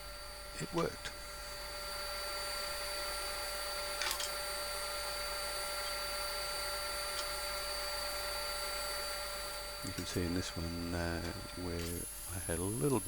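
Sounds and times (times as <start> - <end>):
table saw running: 0.0 - 13.0.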